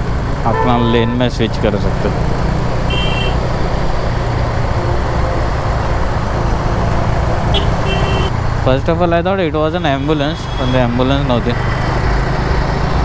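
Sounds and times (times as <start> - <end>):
motorcycle engine: 0.0 - 13.0.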